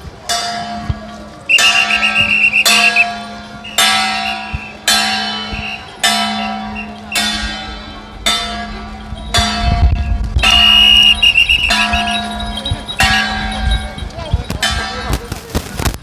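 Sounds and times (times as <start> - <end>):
bell-like metal instrument struck: 0.3 - 15.2.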